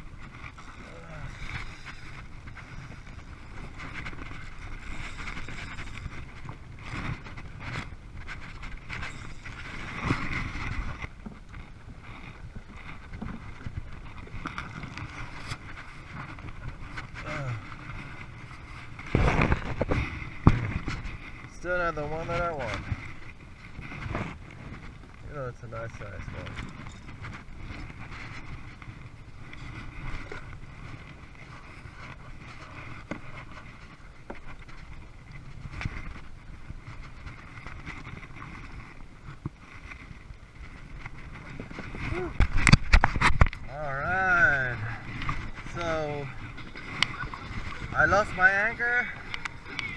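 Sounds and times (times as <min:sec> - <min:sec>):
choppy water washing: 0:00.0 - 0:49.9
waves splashing against kayak hull: 0:00.0 - 0:49.9
wind buffeting microphone: 0:00.0 - 0:49.9.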